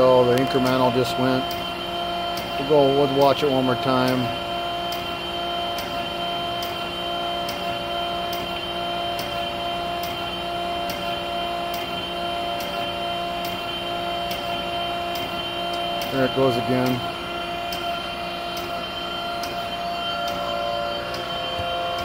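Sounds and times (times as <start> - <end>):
grinder humming: 0.0 - 22.0.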